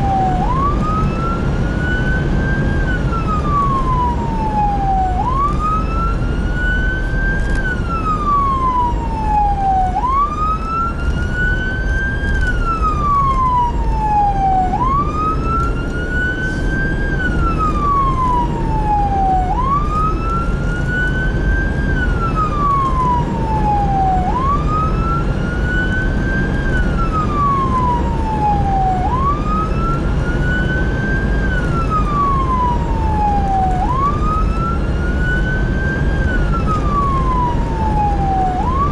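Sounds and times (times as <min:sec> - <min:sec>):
fire engine siren wailing: 0:00.0 - 0:38.9.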